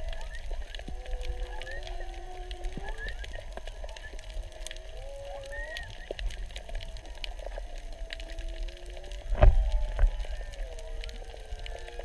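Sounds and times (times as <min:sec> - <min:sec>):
low rumble of water: 0:00.0 - 0:12.0
whale song moans: 0:00.0 - 0:12.0.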